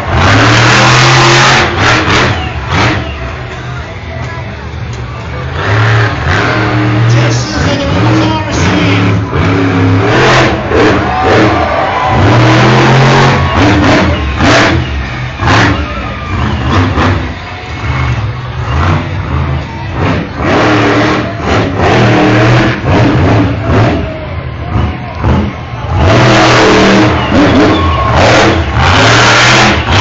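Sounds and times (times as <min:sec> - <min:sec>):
truck engine revving hard: 0:00.0 - 0:30.0.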